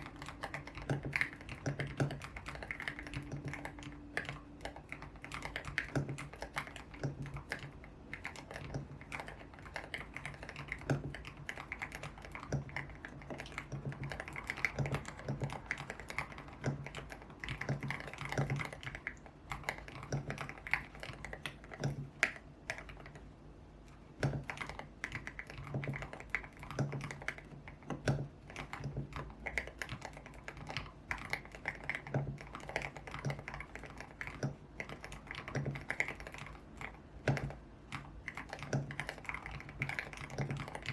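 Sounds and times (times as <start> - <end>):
mechanical keyboard typing: 0.0 - 23.3, 23.9 - 40.9.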